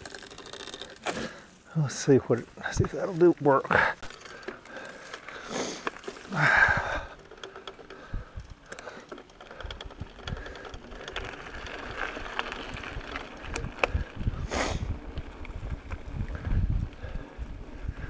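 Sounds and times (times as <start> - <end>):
bike clicks and rattles: 0.0 - 18.0
bike tyres on dirt trail: 0.0 - 18.0.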